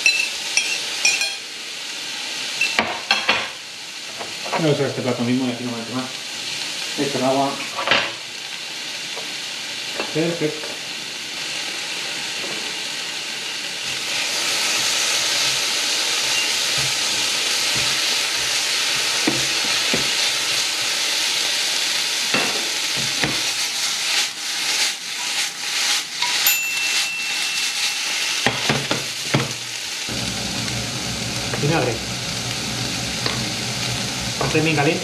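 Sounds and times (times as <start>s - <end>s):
meat and onions sizzling in pan: 0.0s - 35.0s.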